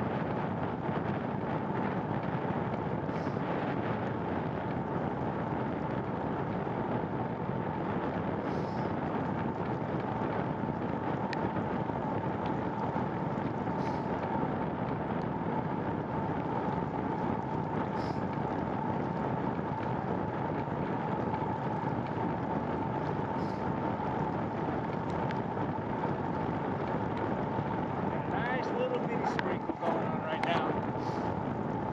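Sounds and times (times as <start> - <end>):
bicycle rolling on trail: 0.0 - 31.9
faint steady whine: 0.0 - 31.9
wind: 0.0 - 31.9.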